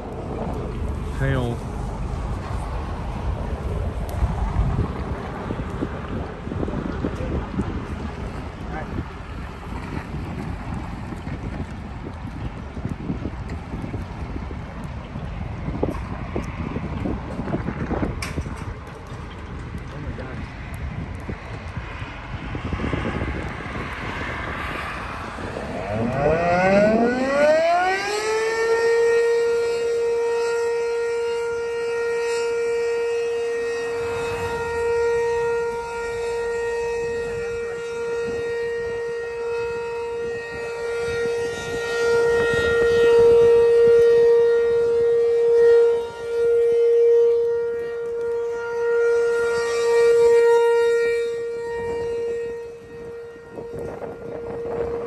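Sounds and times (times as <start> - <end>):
outdoor warning siren wailing: 0.0 - 55.0.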